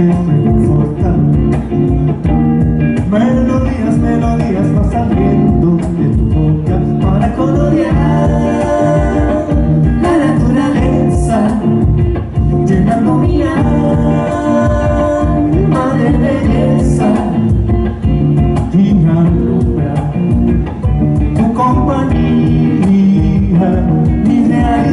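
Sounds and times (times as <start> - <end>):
man singing: 0.0 - 1.8, 3.0 - 24.9
live band music: 0.0 - 24.9.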